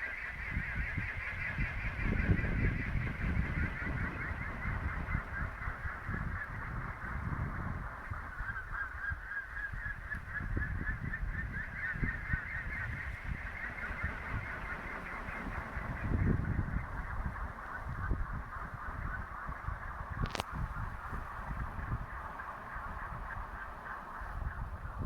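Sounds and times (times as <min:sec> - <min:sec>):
wind rumble on microphone: 0:00.0 - 0:25.0
wind turbine generator whining: 0:00.0 - 0:25.0.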